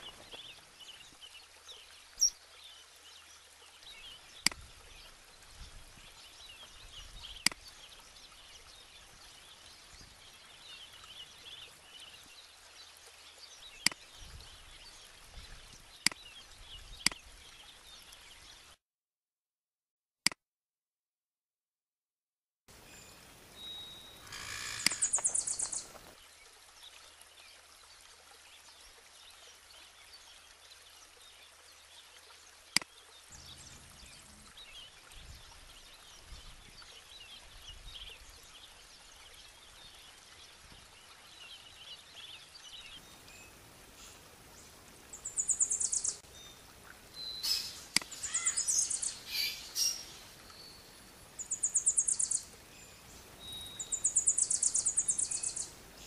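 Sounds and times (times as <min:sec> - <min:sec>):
flowing water rush: 0:00.0 - 0:18.8, 0:22.7 - 0:56.0
songbirds: 0:00.0 - 0:18.8, 0:22.7 - 0:56.0.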